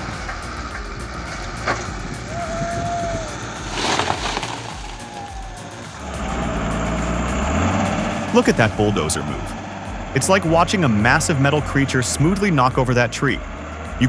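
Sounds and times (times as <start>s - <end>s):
sharp crack: 0.0s - 12.8s
heavy machine engine rumbling: 0.0s - 14.0s.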